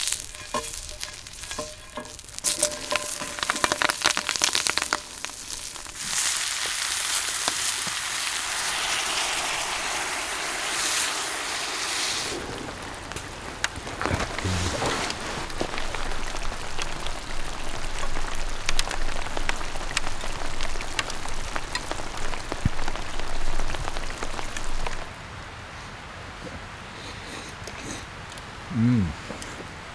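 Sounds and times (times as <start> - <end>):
food sizzling in a pan: 0.0 - 25.2.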